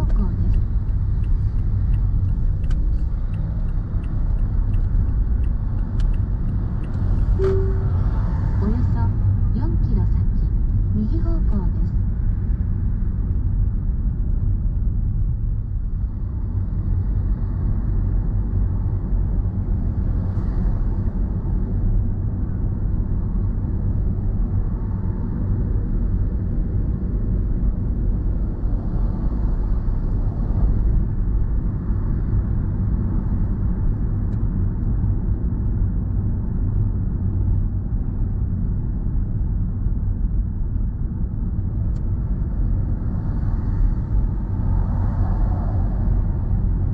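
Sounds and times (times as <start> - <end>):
car interior road rumble: 0.0 - 46.9.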